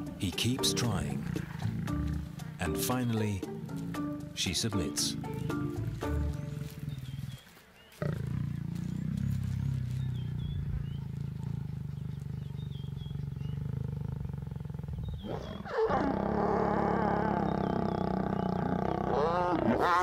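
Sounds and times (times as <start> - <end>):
lions growling: 0.0 - 20.0
lion snarling: 0.8 - 2.9, 3.5 - 20.0.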